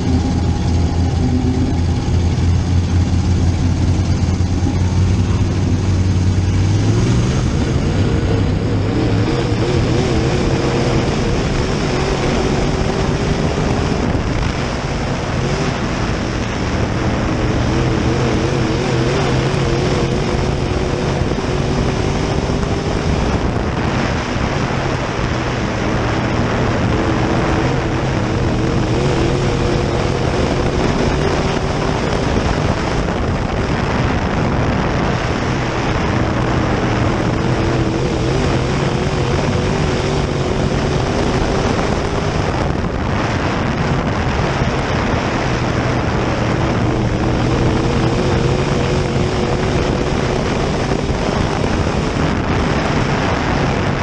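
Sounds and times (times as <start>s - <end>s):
race car engine: 0.0s - 54.0s
wind rushing: 0.0s - 54.0s.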